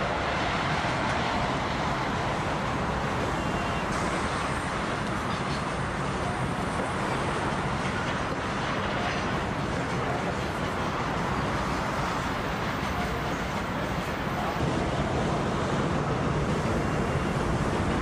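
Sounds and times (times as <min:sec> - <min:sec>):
freight train crossing a steel bridge: 0:00.0 - 0:18.0
street traffic: 0:00.0 - 0:18.0.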